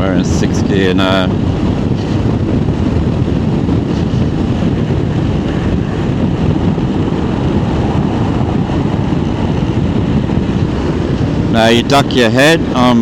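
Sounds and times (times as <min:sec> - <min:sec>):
wind roar: 0:00.0 - 0:13.0
motorcycle engine running: 0:01.3 - 0:13.0.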